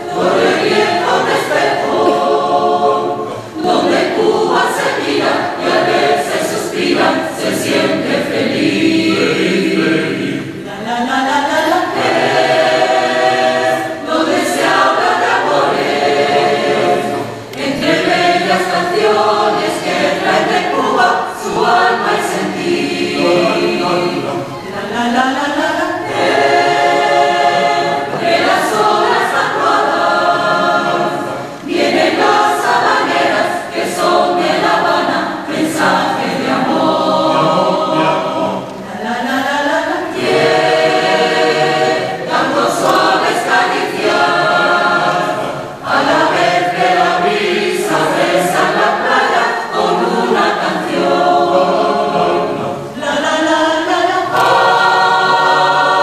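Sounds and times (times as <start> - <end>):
mixed choir singing a cappella: 0.0 - 56.0.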